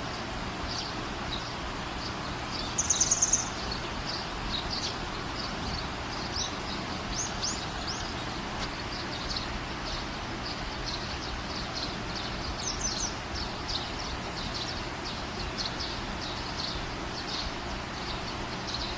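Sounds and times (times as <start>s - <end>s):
background hiss: 0.0s - 18.9s
small birds chirping: 0.0s - 18.9s.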